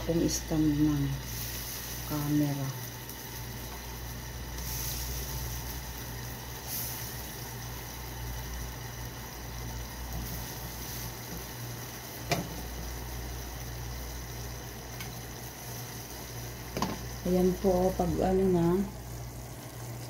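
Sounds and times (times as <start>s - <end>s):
honey and butter simmering in pan: 0.0s - 20.0s
steady low hum: 0.0s - 20.0s.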